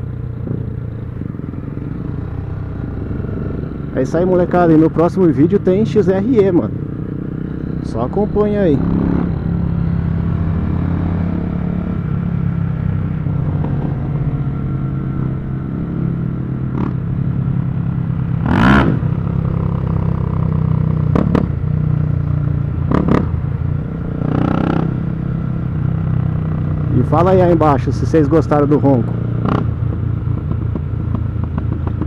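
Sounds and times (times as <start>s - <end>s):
motorcycle engine droning: 0.0s - 32.0s.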